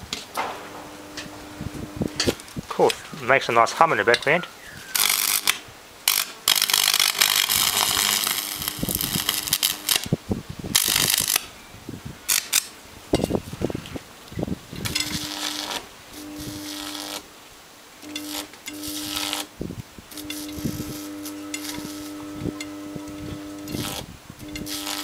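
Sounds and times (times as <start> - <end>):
electric arc hissing and crackling: 0.0 - 11.5, 12.1 - 25.0
steady mains hum: 0.0 - 25.0.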